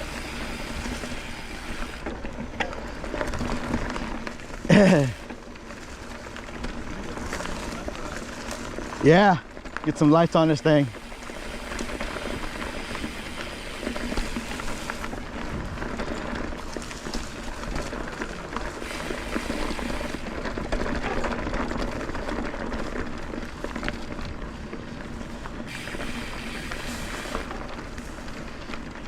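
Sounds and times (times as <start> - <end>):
bike clicks and rattles: 0.0 - 29.0
bike tyres rustling on dirt: 0.0 - 29.0.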